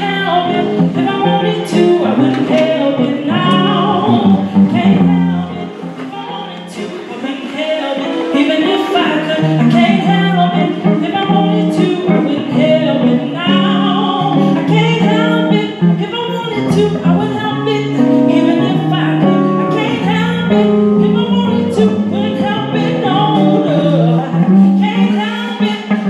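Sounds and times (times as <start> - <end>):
guitar: 0.0 - 26.0
woman singing soul song: 0.0 - 26.0.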